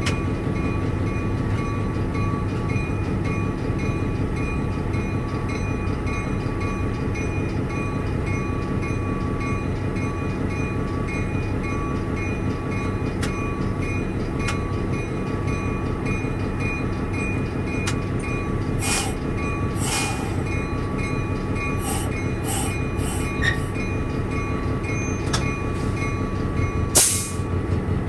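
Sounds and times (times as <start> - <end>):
diesel locomotive rumbling: 0.0 - 28.0.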